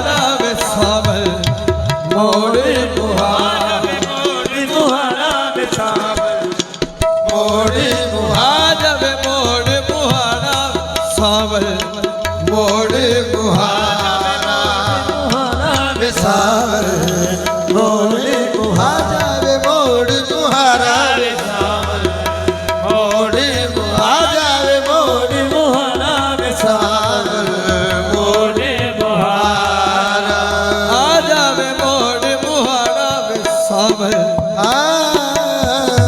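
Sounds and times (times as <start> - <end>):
tabla playing: 0.0 - 36.0.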